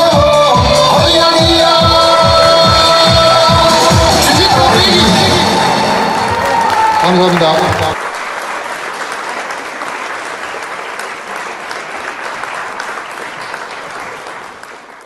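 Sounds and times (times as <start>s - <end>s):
audience applauding: 1.8s - 15.0s.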